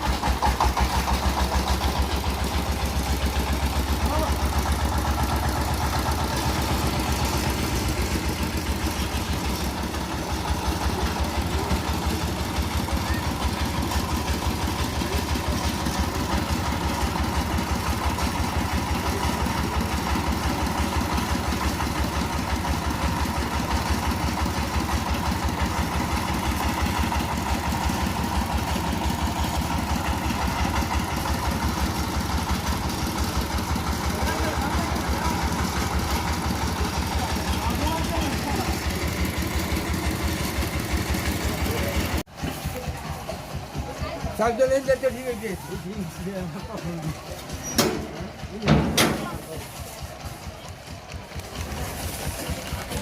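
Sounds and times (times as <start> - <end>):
construction machine engine running: 0.0 - 53.0.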